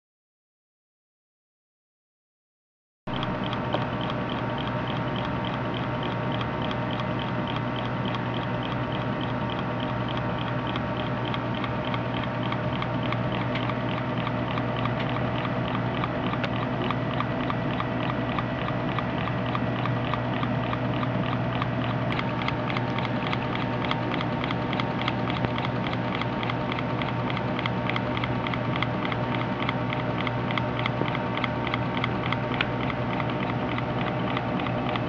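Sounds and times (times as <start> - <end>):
air pump low hum: 3.1 - 35.0
model engine ticking: 3.1 - 35.0.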